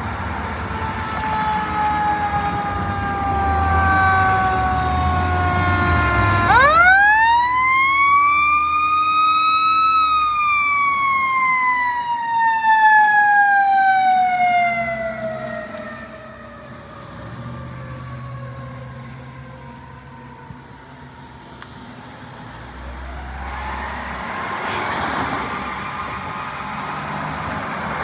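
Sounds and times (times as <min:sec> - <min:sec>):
fire engine siren wailing: 0:00.0 - 0:28.0
truck engine rumble: 0:00.0 - 0:28.0.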